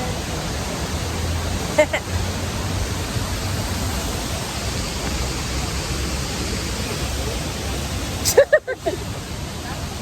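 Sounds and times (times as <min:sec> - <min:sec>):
waterfall roar: 0:00.0 - 0:10.0.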